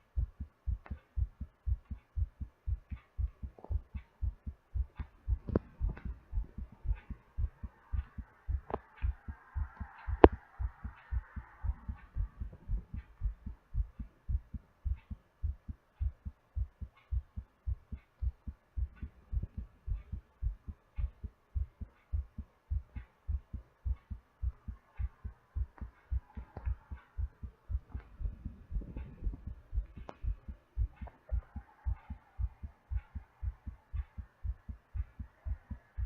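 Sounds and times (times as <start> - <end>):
fast heartbeat thumps: 0.0 - 36.0.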